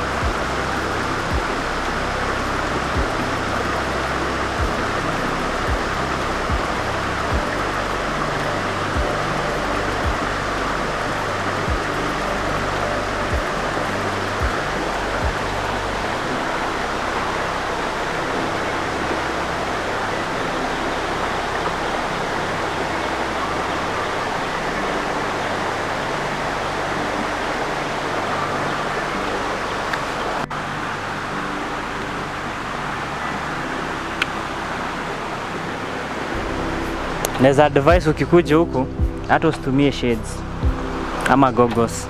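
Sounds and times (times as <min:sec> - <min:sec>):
waterfall roaring: 0:00.0 - 0:38.0.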